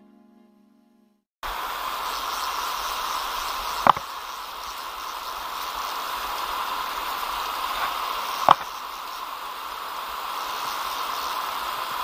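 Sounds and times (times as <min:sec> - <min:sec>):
river water rushing over stones: 0:01.4 - 0:12.0.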